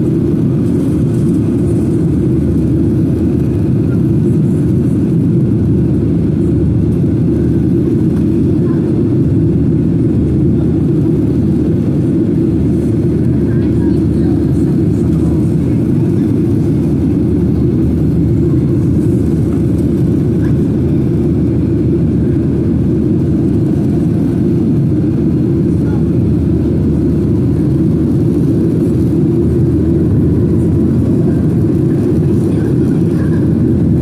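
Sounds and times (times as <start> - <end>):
jet engines droning: 0.0 - 34.0.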